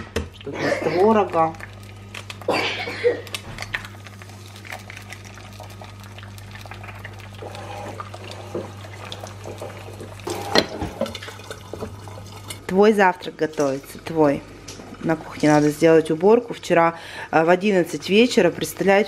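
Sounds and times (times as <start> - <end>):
eggs sizzling in a pan: 0.2 - 19.0.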